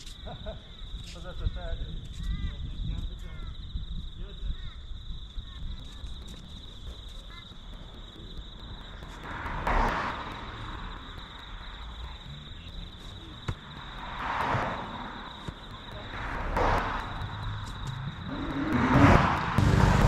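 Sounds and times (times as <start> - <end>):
insect chorus droning: 0.0 - 19.6.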